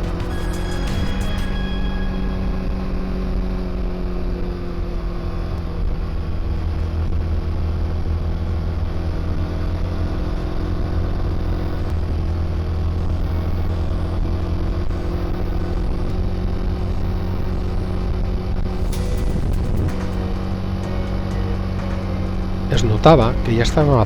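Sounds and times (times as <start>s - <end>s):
motorcycle engine running: 0.0s - 24.0s
road and wind noise: 0.0s - 24.0s.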